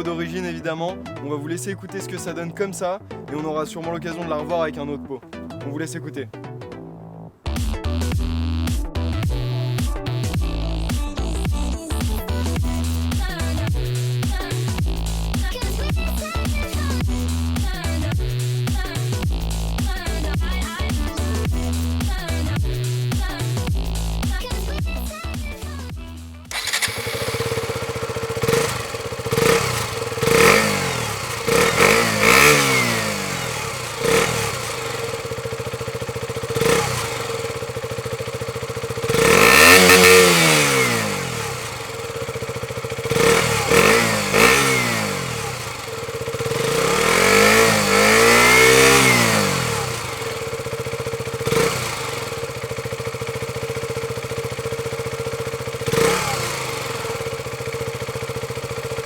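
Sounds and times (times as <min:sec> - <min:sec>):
motorcycle engine revving: 0:07.6 - 0:25.1, 0:26.4 - 0:59.0.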